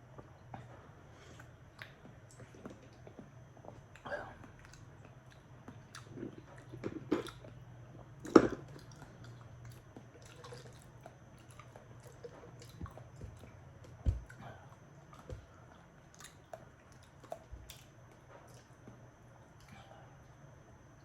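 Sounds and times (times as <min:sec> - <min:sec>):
wet chewing and slurping: 0:00.2 - 0:18.8.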